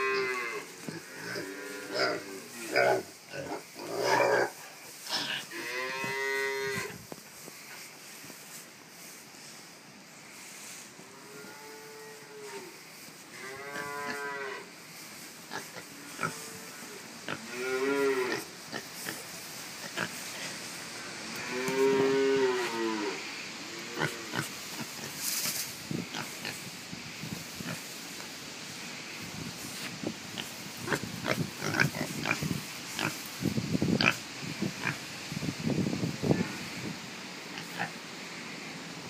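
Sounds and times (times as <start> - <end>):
hay rustling and crackling: 0.0 - 38.0.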